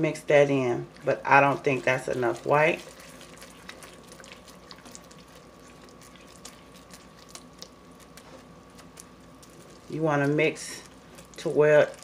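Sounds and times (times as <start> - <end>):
bubbling syrup crackling and popping: 0.8 - 12.0.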